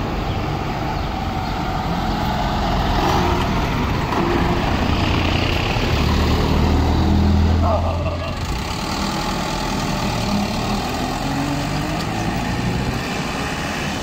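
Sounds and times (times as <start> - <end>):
traffic engines running: 0.0 - 14.0.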